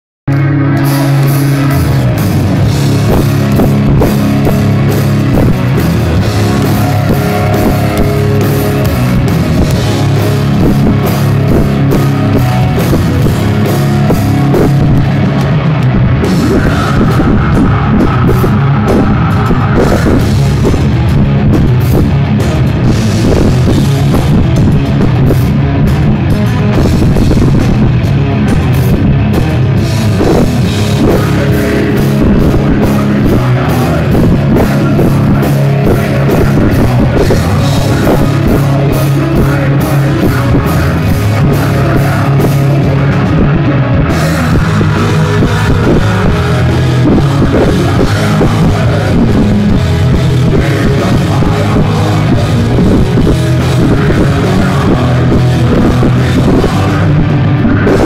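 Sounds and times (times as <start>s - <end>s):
high held melodic line: 0.3s - 58.0s
live metal band playing: 0.3s - 58.0s.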